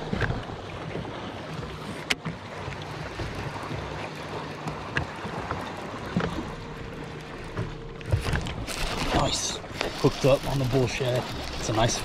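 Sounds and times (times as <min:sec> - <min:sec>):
small waves lapping against hull: 0:00.0 - 0:12.0.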